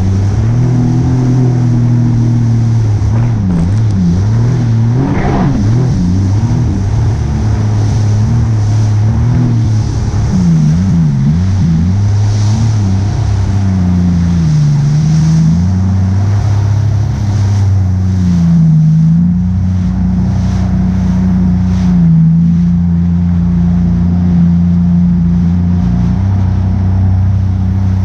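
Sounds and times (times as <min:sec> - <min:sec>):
motorboat engine running: 0:00.0 - 0:28.0
water noise: 0:00.0 - 0:28.0
wind: 0:00.0 - 0:28.0.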